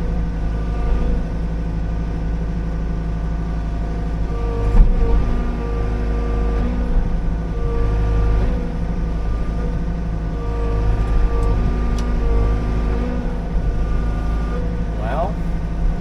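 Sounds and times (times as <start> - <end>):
diesel engine droning: 0.0 - 16.0
hydraulic whine: 0.0 - 16.0.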